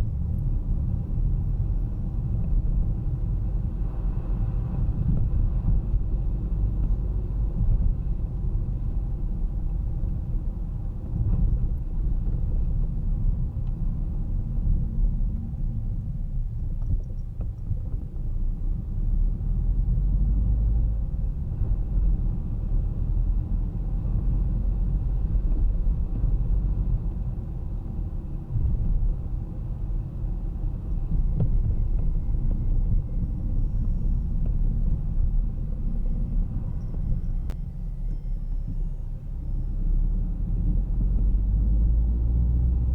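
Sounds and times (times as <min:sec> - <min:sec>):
car engine and tyre road noise: 0:00.0 - 0:42.9
faint traffic: 0:00.0 - 0:42.9.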